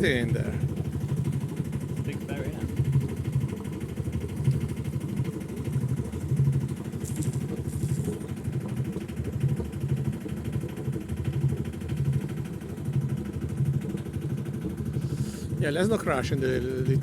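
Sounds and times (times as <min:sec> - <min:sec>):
boat engine throbbing: 0:00.0 - 0:17.0.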